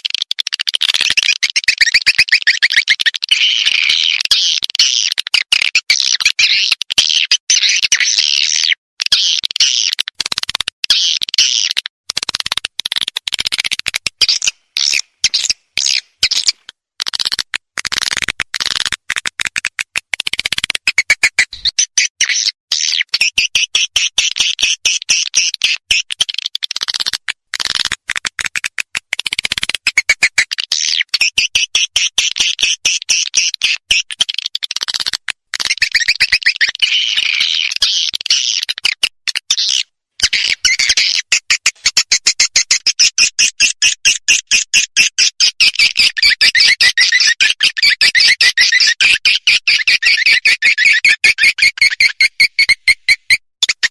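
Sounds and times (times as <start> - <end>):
recorded swiftlet calls: 0.0 - 53.9.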